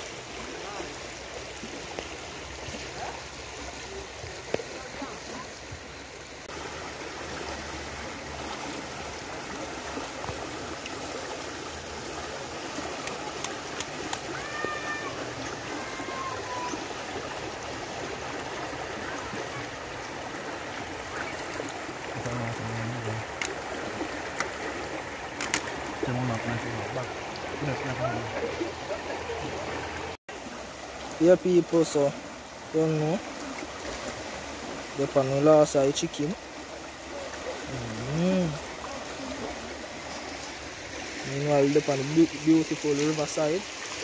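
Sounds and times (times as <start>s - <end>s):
river rushing over rocks: 0.0s - 44.0s.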